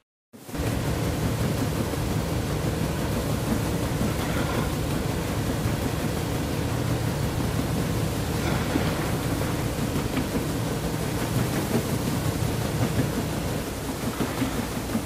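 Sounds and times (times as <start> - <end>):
low rumbling rushing noise: 0.6 - 15.0.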